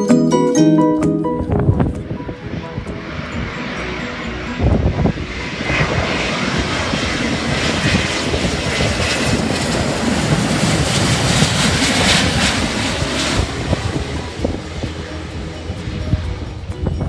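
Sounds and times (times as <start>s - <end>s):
jet airliner passing overhead: 1.3s - 17.0s.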